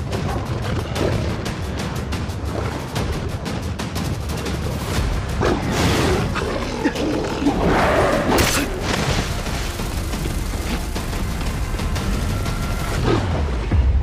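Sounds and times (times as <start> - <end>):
action soundtrack music: 0.0 - 14.0.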